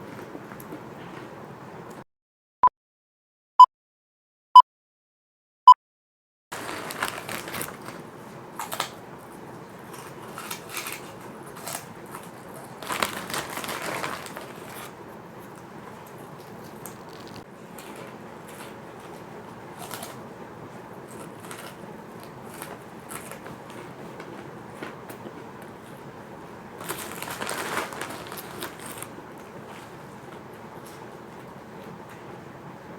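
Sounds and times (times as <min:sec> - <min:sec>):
crackers being chewed: 0:00.0 - 0:01.3, 0:06.6 - 0:32.5.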